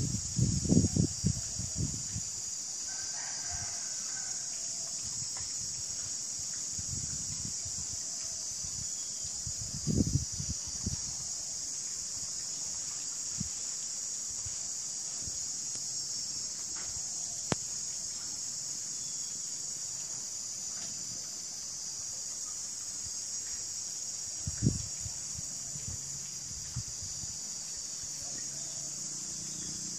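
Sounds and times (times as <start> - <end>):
insects chirring: 0.0 - 29.9.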